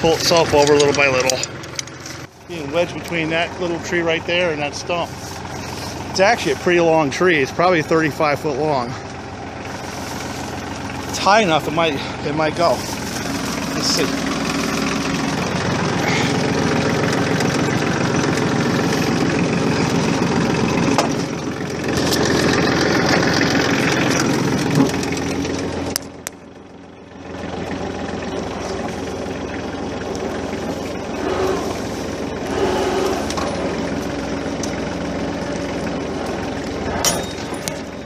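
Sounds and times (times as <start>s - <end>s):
tractor diesel engine labouring: 0.0s - 38.0s.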